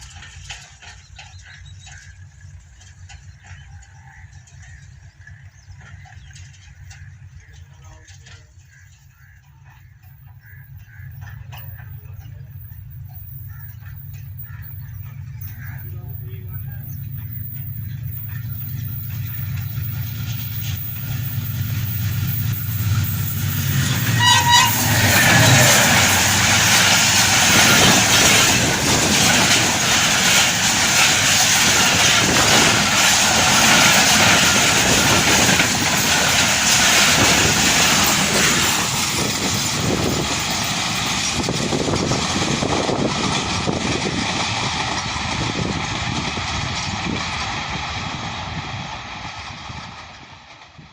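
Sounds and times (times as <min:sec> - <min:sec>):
train wheels clattering over rails: 0:00.0 - 0:50.9.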